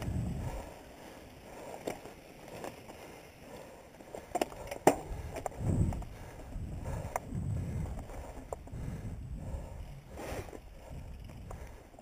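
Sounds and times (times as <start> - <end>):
bike rolling over dirt trail: 0.0 - 12.0.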